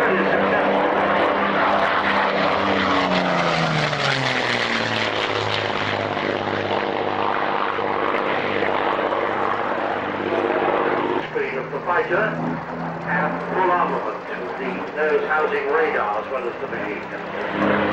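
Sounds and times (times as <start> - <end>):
aircraft piston engines passing: 0.0 - 17.9.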